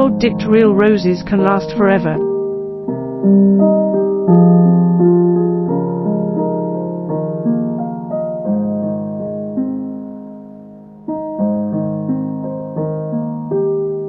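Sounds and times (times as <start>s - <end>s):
soft solo piano music: 0.0s - 14.0s.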